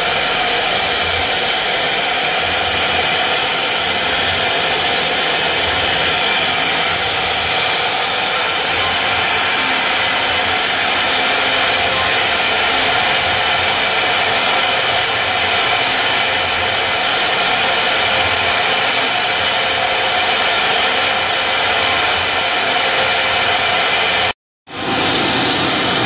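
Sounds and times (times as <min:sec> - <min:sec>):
router spindles whining: 0:00.0 - 0:26.0
wood cutting noise: 0:00.0 - 0:26.0.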